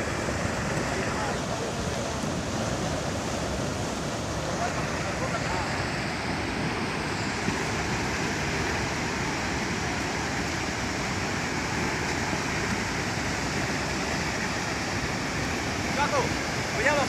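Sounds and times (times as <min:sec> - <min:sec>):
rushing mudslide torrent: 0:00.0 - 0:17.0.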